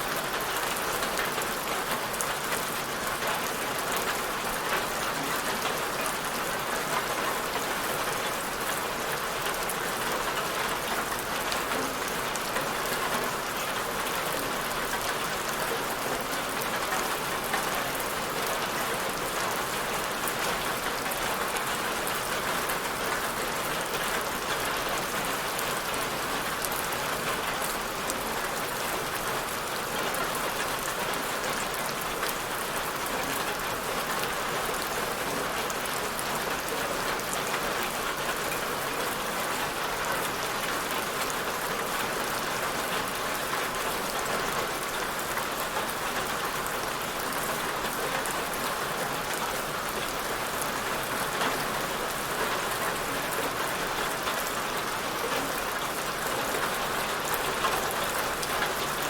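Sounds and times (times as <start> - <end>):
raindrops pattering on surface: 0.0 - 59.0
steady rain hiss: 0.0 - 59.0.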